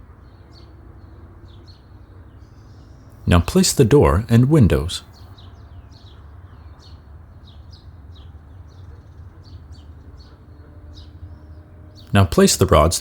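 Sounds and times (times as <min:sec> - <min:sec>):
songbird chirping: 0:00.3 - 0:13.0.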